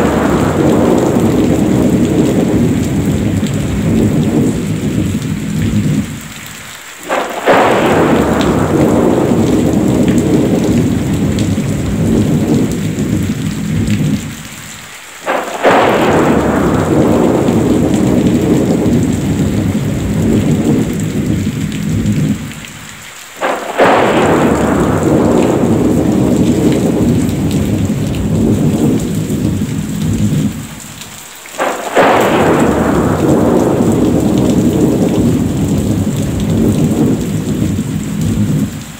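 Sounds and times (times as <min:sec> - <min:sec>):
heavy steady rain: 0:00.0 - 0:38.9
thunderclaps rumbling: 0:00.0 - 0:38.9.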